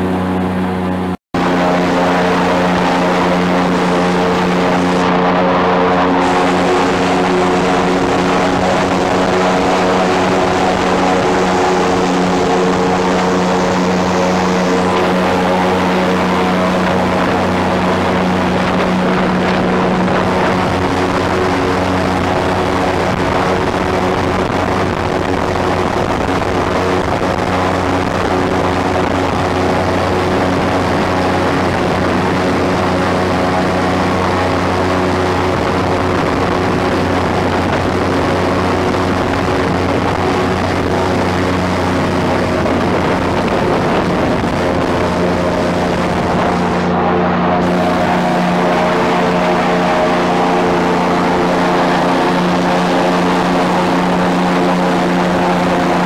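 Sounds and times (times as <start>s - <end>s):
airboat engine and propeller drone: 0.0s - 56.0s.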